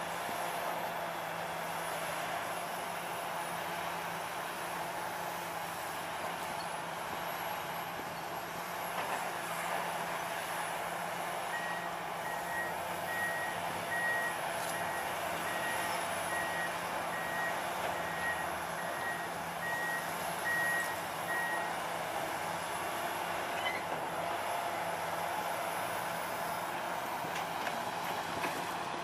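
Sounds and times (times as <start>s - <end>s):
heavy diesel machines running: 0.0s - 29.0s.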